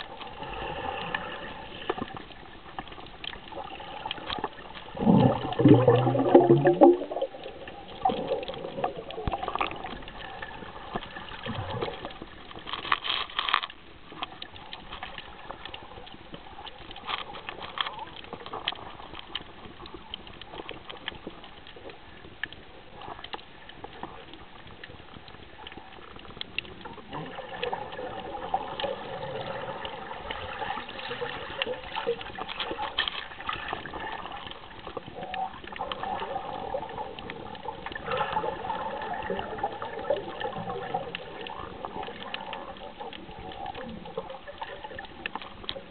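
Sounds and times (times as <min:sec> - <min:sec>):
clicks and crackles: 0:00.0 - 0:45.9
muffled water sloshing and bubbling: 0:00.0 - 0:45.9.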